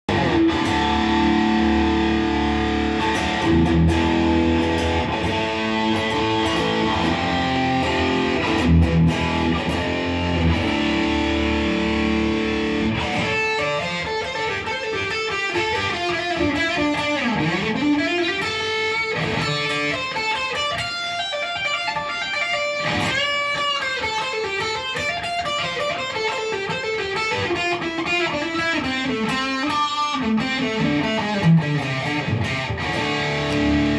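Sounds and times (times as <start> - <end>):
electric guitar playing: 0.1 - 33.9.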